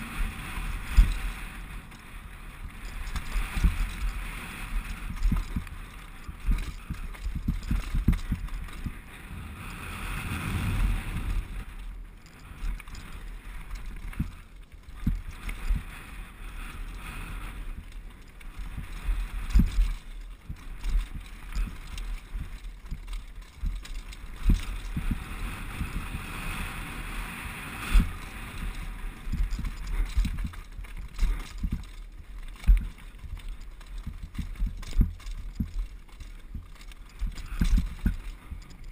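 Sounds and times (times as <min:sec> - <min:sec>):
bike knocks and rattles: 0:00.0 - 0:26.4, 0:27.6 - 0:38.9
tyre noise on gravel: 0:00.0 - 0:38.9
wind on camera: 0:00.0 - 0:38.9.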